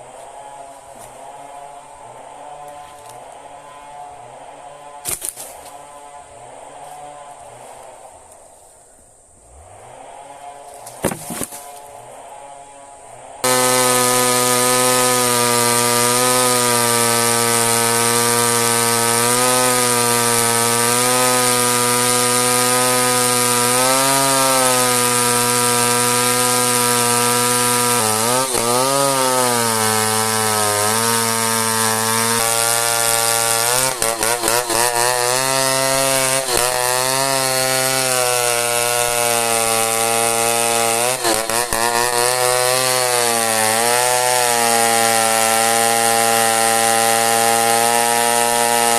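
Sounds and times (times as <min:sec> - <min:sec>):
chainsaw cutting wood: 0:00.0 - 0:08.4, 0:09.4 - 0:48.9.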